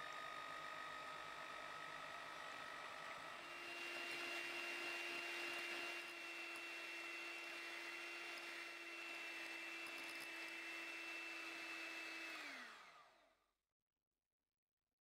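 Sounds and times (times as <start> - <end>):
electric hand mixer running: 0.0 - 13.4.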